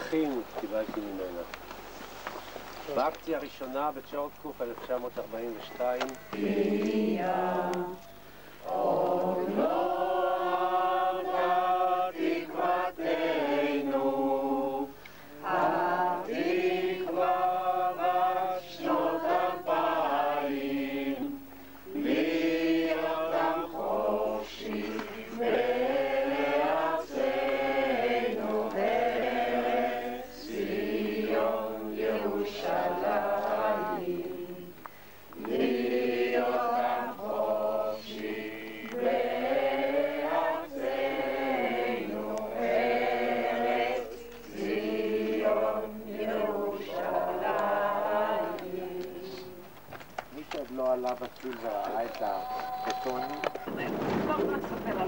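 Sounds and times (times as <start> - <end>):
slow chanted singing: 5.3 - 49.9.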